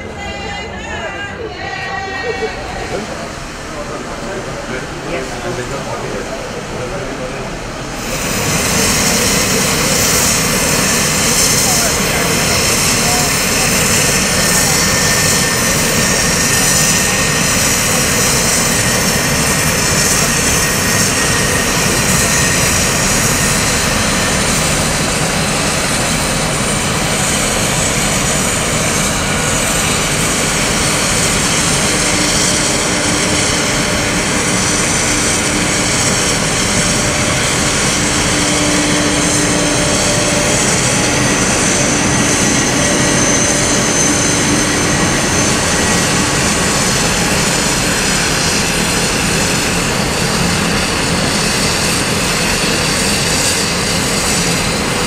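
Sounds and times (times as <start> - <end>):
jet turbine running: 2.2 - 55.0.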